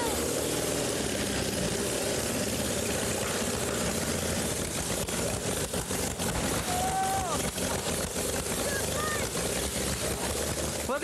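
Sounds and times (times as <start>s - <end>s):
old car engine running loudly: 0.0s - 11.0s.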